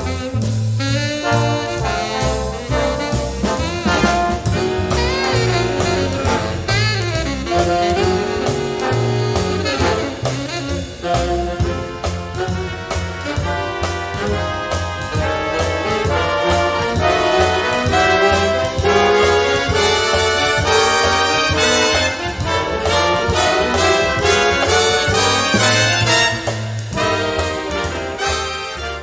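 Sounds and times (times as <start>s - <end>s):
upbeat jazz with brass and saxophone: 0.0s - 29.0s.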